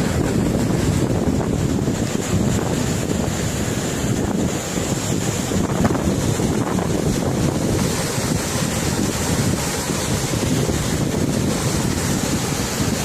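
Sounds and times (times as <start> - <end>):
rushing floodwater: 0.0 - 13.0
wind buffeting microphone: 0.0 - 13.0.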